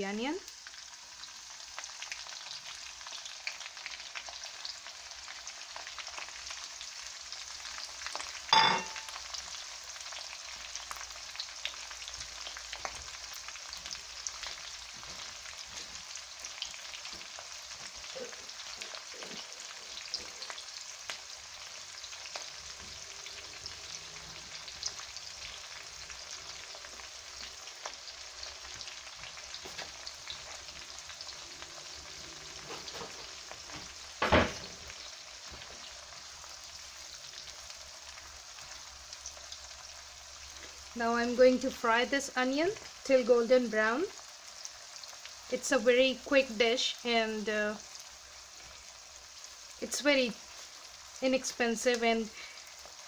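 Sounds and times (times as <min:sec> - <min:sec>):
onion sizzling in oil: 0:00.0 - 0:53.0.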